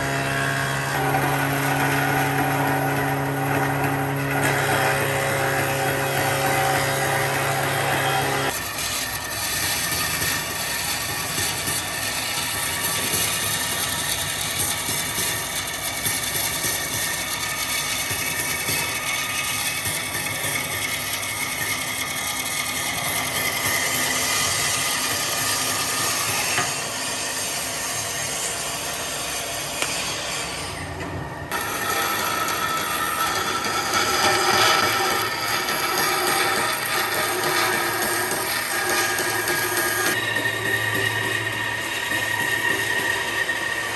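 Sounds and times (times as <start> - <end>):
power tool grinding wood: 0.0 - 43.9.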